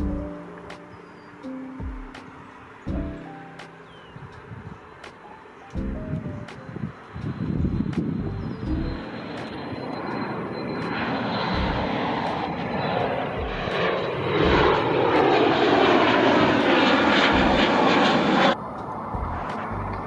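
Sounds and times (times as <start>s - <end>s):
jet engines roaring overhead: 0.0s - 20.0s.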